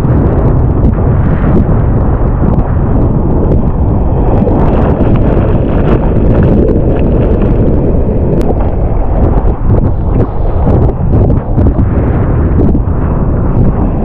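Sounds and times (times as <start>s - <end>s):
breaking whitewater rushing: 0.0s - 14.0s
wind noise on microphone: 0.0s - 14.0s.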